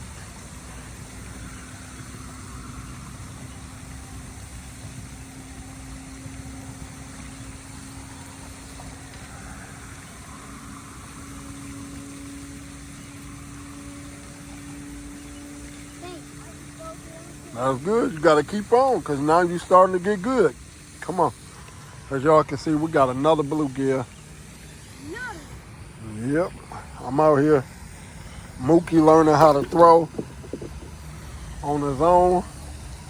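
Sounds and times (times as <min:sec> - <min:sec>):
motor humming: 0:00.0 - 0:33.0
outdoor rumble: 0:00.0 - 0:33.0.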